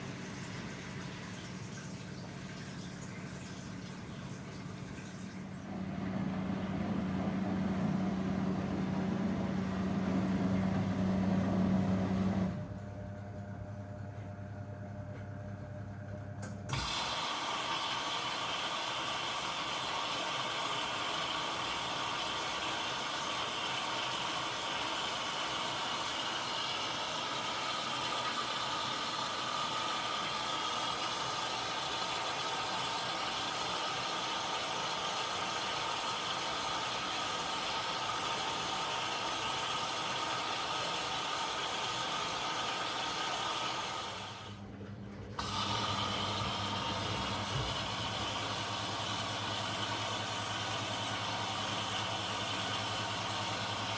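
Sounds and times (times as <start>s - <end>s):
drain pump humming: 0.0s - 53.9s.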